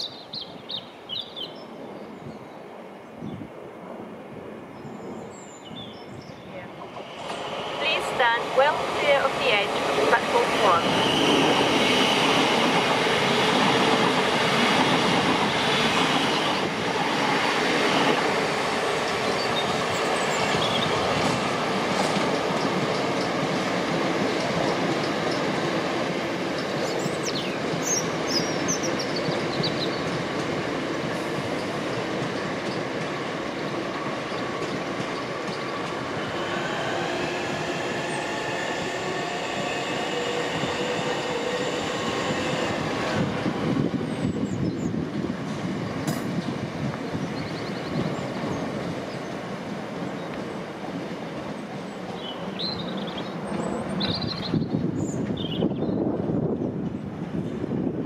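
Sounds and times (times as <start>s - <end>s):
train wheels on rails: 6.7s - 58.0s.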